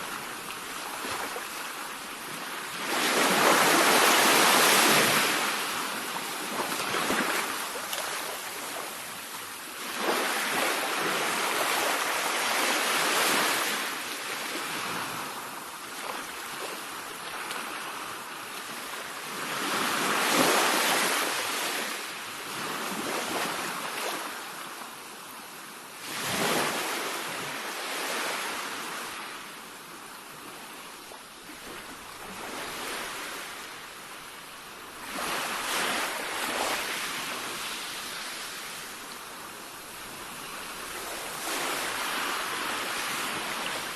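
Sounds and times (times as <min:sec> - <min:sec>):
sea waves crashing on shore: 0:00.0 - 0:43.9.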